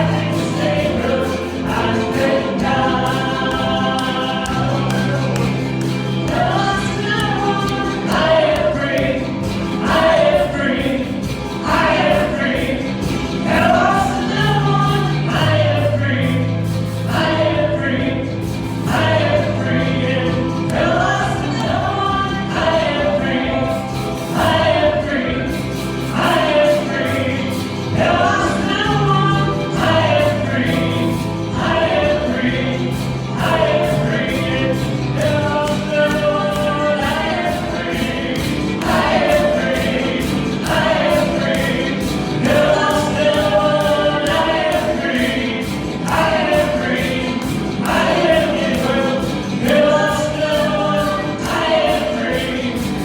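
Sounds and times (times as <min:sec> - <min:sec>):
bass notes and steady beat: 0:00.0 - 0:53.0
group singing gospel song: 0:00.0 - 0:53.0.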